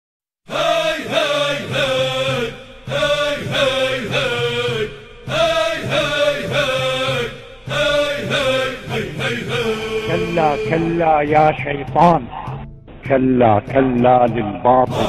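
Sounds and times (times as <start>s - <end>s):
voices chanting: 0.5s - 15.0s.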